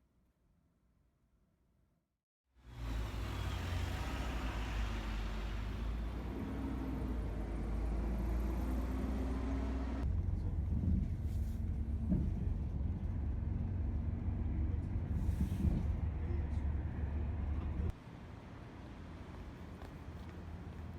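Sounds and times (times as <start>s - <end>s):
engine and tyre rumble: 2.6s - 20.9s.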